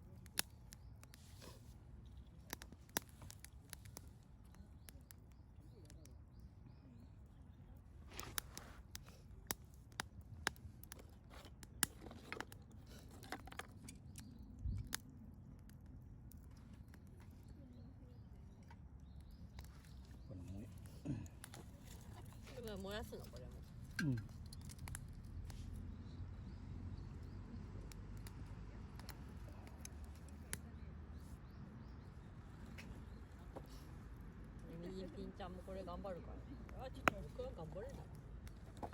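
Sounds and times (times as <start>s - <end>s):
campfire crackling and popping: 0.0s - 17.5s, 18.2s - 38.9s.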